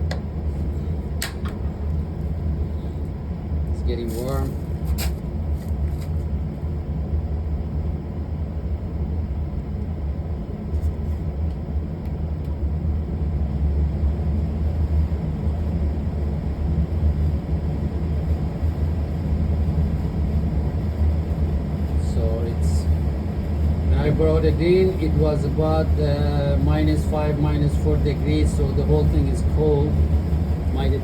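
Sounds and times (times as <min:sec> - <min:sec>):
low rumble and hum: 0:00.0 - 0:31.0.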